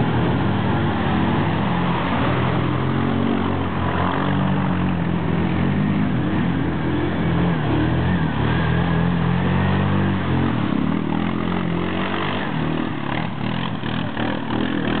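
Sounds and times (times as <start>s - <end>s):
quad engine under load: 0.0s - 15.0s.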